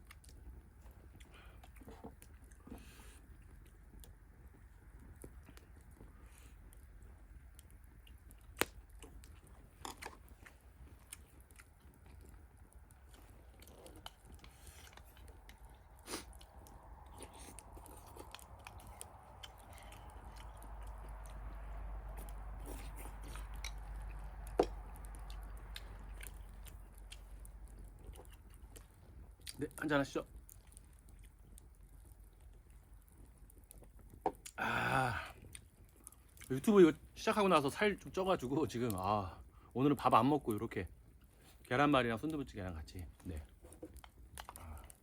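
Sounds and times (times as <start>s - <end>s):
person chewing food: 0.0s - 37.1s, 43.1s - 45.0s.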